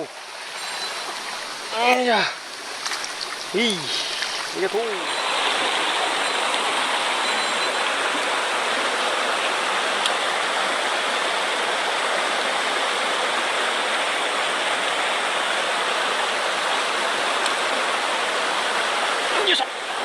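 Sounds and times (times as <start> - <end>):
mountain stream rapids roaring: 0.0 - 20.0.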